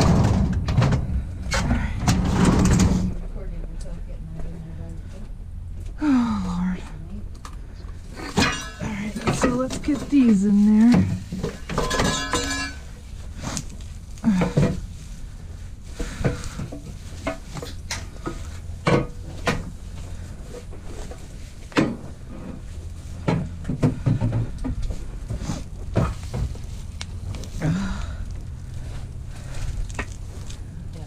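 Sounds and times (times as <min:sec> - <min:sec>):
scrap metal clanking and scraping: 0:00.0 - 0:03.3, 0:07.9 - 0:31.0
steady low hum: 0:00.0 - 0:31.0.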